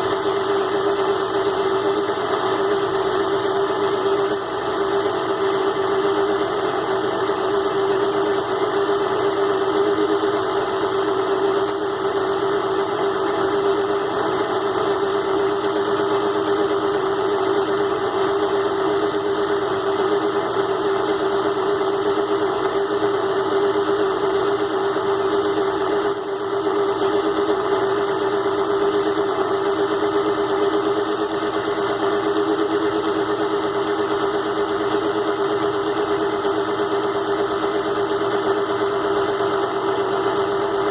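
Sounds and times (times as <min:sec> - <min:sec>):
lathe motor whining: 0:00.0 - 0:40.9.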